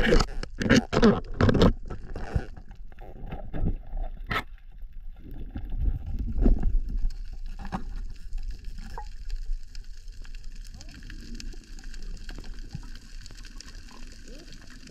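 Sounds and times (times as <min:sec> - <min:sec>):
low underwater rumble: 0:01.3 - 0:14.9.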